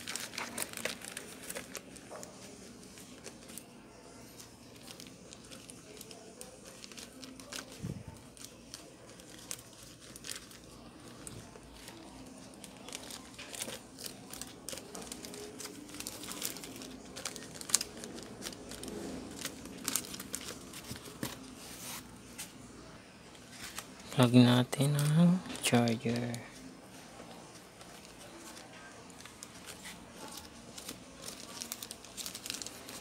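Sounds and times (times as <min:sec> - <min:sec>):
plastic bag crinkling: 0:00.0 - 0:22.1, 0:23.3 - 0:33.0.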